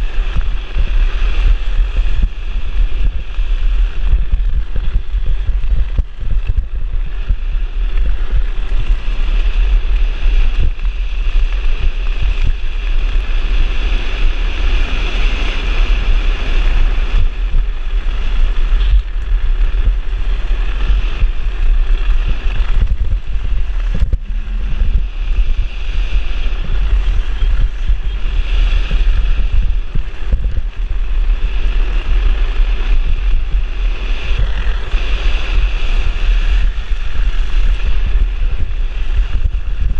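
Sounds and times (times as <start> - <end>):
wheels rolling on asphalt: 0.0 - 39.9
wind buffeting microphone: 0.0 - 39.9.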